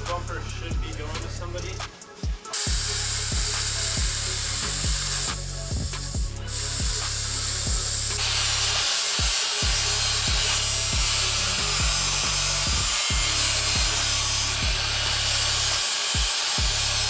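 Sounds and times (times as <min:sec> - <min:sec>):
music with heavy bass beat: 0:00.0 - 0:17.0
angle grinder cutting steel pipe: 0:02.5 - 0:17.0.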